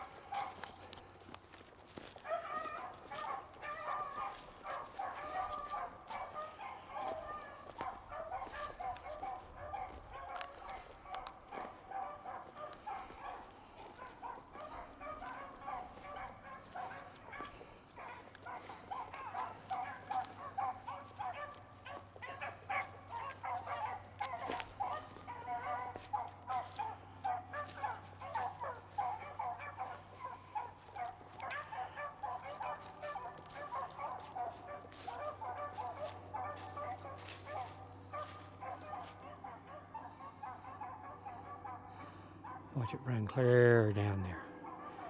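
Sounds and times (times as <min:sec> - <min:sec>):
dogs baying: 0:00.0 - 0:45.0.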